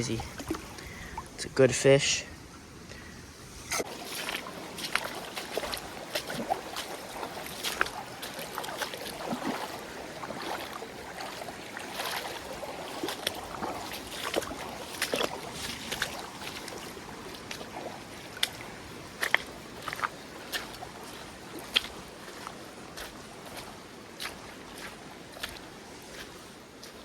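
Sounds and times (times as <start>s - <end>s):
short splashes and knocks: 0.0s - 1.3s, 3.7s - 27.0s
creek water splashing: 0.0s - 27.0s.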